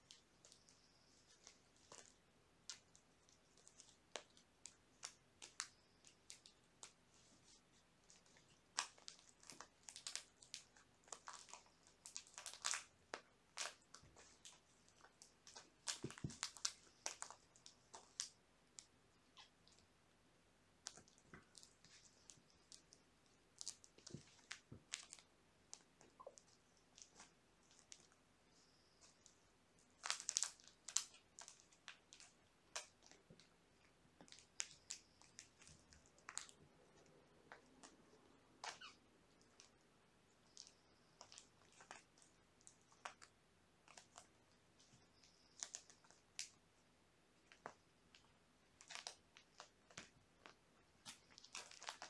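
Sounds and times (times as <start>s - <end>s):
kittens rustling on fabric blanket: 0.0s - 19.9s, 20.8s - 46.6s.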